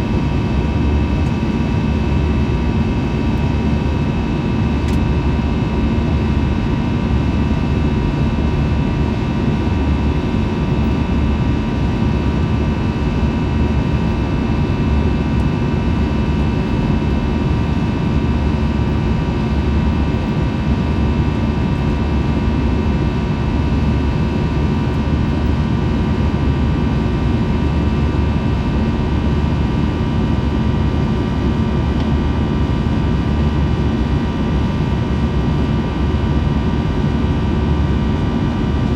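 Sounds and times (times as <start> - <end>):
constant multi-tone whine: 0.0 - 38.9
jet engine cabin roar: 0.0 - 38.9.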